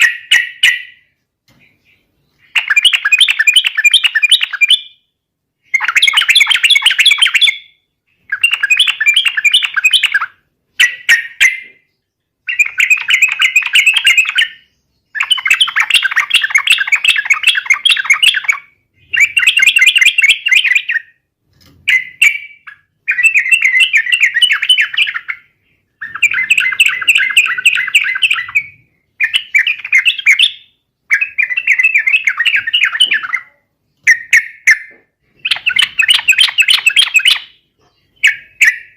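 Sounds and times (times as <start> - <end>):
bulbul chattering song: 0.0 - 21.3, 21.9 - 38.9.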